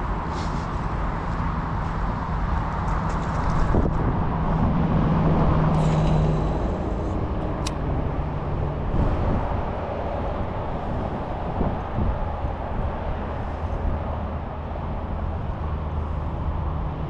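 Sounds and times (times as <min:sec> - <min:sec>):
traffic noise: 0:00.0 - 0:17.0
vehicle engine passing: 0:00.0 - 0:17.0.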